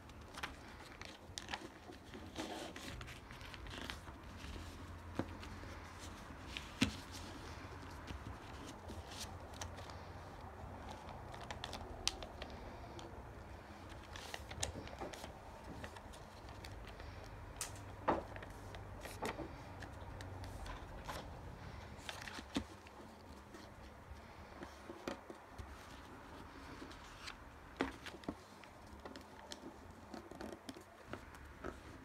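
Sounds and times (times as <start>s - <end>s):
fingers pressing paper creases: 0.0s - 32.0s
paper rustling while folded: 0.0s - 32.0s.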